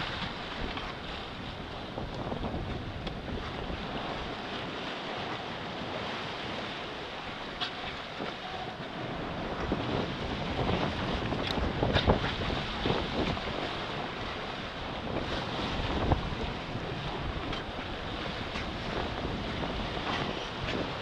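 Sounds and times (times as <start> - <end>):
sea water rushing along hull: 0.0 - 21.0
wind buffeting microphone: 0.0 - 21.0.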